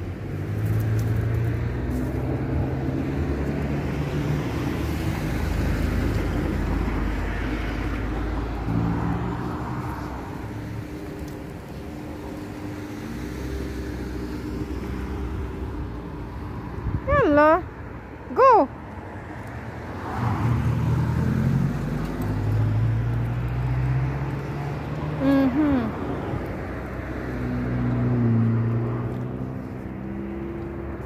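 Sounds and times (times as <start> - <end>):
vehicle passing: 0.0 - 31.0.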